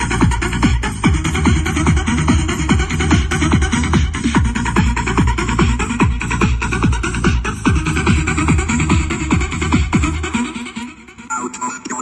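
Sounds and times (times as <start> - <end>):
loud techno dance music: 0.0 - 12.0.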